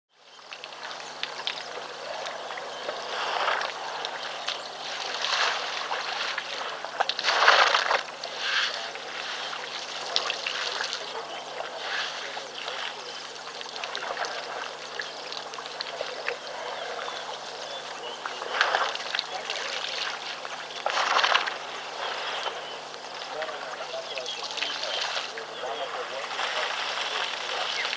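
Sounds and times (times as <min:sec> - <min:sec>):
steady low hum: 0:00.2 - 0:27.9
water trickling and splashing: 0:00.2 - 0:27.9.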